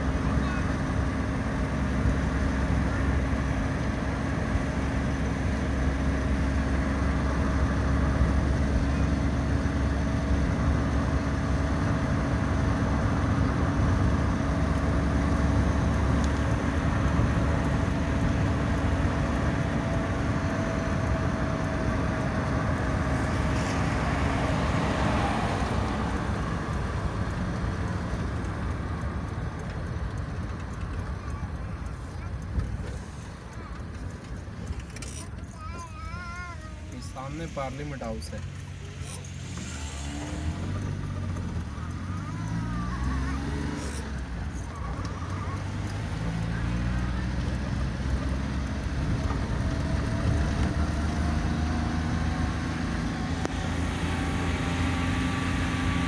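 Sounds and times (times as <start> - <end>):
car driving: 0.0 - 56.0
road noise: 0.0 - 56.0.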